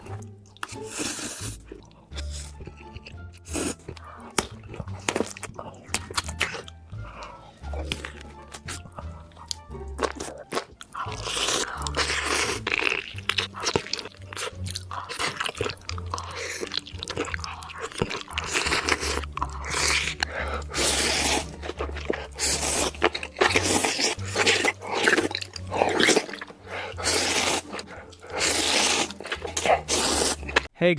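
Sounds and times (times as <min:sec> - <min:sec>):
crunching and chewing food: 0:00.0 - 0:30.7.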